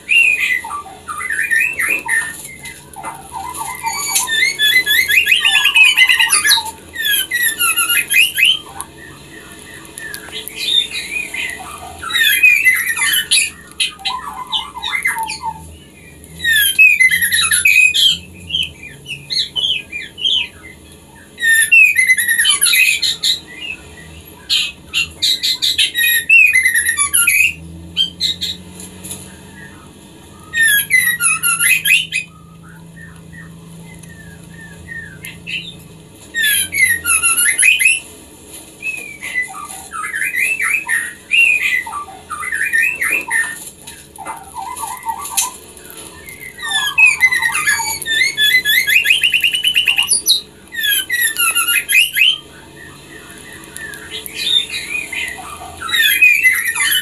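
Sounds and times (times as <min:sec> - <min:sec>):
bird chirping and chattering: 0:00.0 - 0:38.0, 0:38.8 - 0:57.0.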